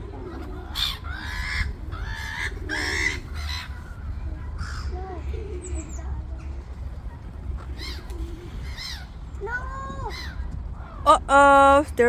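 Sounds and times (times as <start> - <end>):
gulls calling: 0.0 - 12.0
steady low rumble: 0.0 - 12.0.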